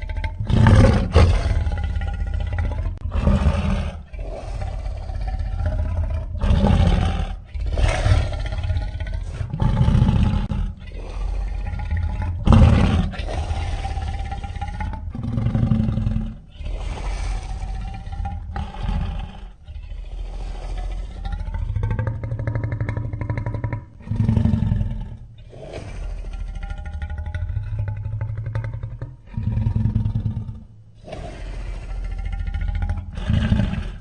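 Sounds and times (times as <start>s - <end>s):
giant ape roars: 0.0s - 28.0s.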